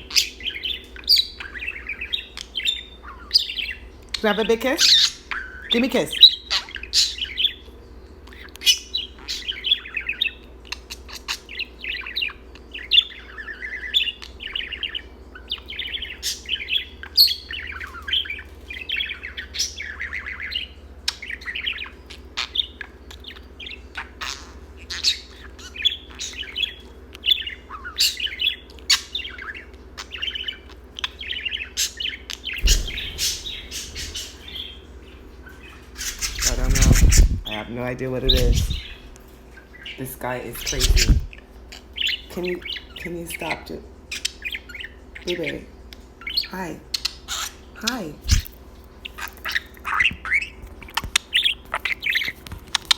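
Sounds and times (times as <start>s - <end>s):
budgerigar chattering and warbling: 0.0s - 7.7s, 8.3s - 34.8s, 35.6s - 39.1s, 39.8s - 45.6s, 46.2s - 52.9s.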